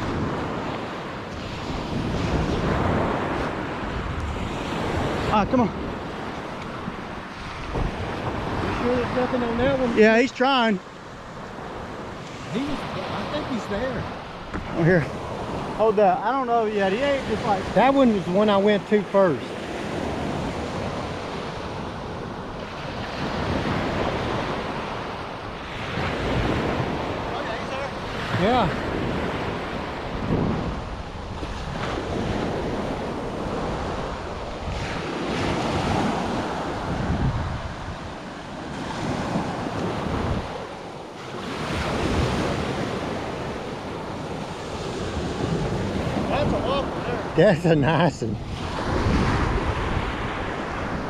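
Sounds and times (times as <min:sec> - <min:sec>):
surf breaking on beach: 0:00.0 - 0:51.0
wind buffeting microphone: 0:00.0 - 0:51.0.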